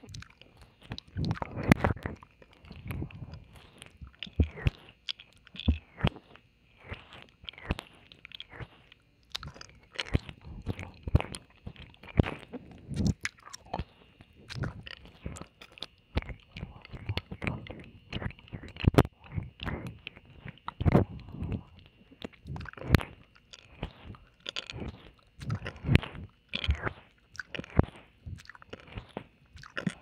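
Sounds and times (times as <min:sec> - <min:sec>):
lip smacks: 0:00.0 - 0:30.0
wet mouth licking sounds: 0:00.0 - 0:30.0.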